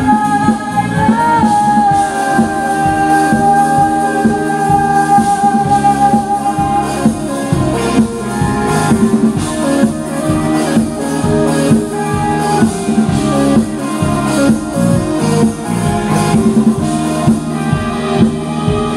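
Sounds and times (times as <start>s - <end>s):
indie rock band playing: 0.0s - 18.9s
steady drum beat: 0.0s - 18.9s.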